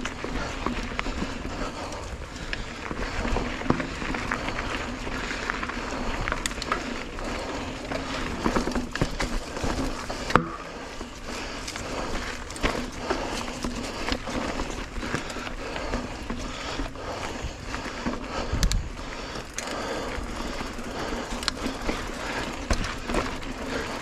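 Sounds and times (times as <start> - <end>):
bike knocking and rattling: 0.0 - 24.0
bike tyres rolling on dirt: 0.0 - 24.0.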